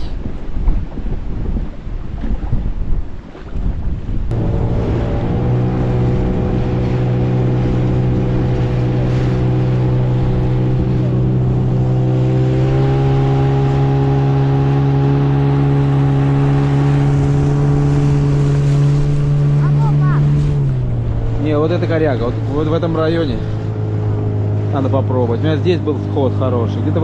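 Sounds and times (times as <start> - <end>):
water rushing past hull: 0.0 - 27.0
outboard motor running: 4.3 - 27.0.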